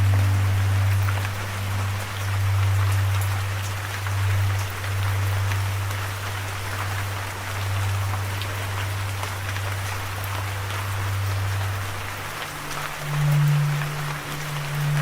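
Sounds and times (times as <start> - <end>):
low steady drone: 0.0 - 15.0
steady rain falling: 0.0 - 15.0.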